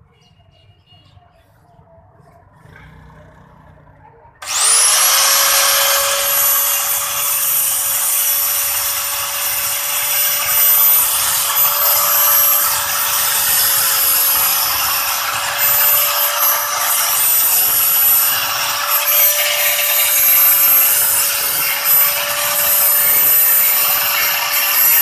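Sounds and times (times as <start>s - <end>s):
angle grinder whining: 4.4s - 25.0s
grinder disc cutting steel pipe: 4.4s - 25.0s.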